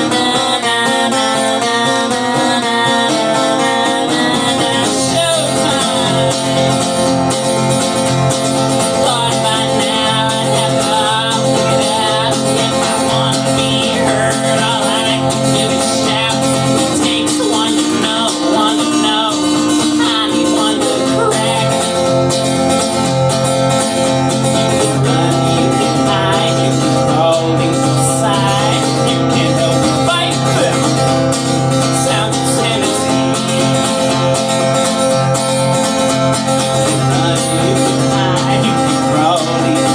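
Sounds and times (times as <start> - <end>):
country guitar music: 0.0 - 39.9.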